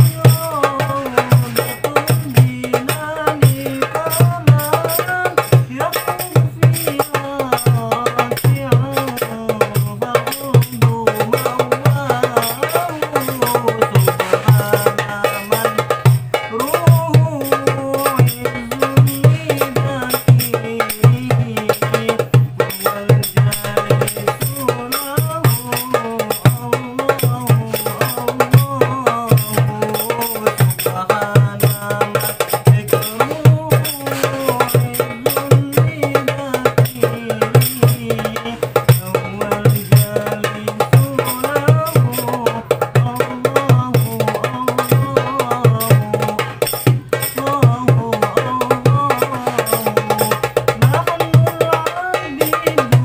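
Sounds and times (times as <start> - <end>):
hand drum fast rhythm: 0.0 - 53.0.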